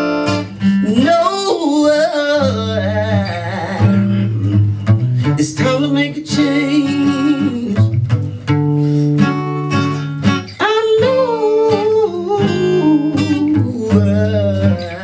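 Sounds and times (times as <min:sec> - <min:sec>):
man singing: 0:00.0 - 0:08.3, 0:10.4 - 0:15.0
acoustic guitar strumming: 0:00.0 - 0:15.0.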